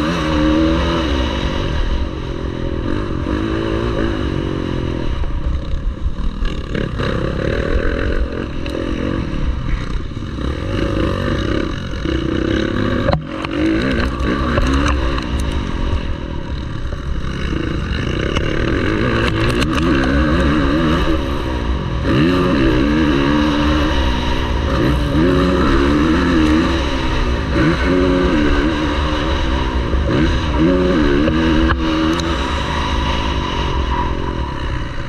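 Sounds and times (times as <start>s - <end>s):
motocross bike engine racing: 0.0s - 35.0s.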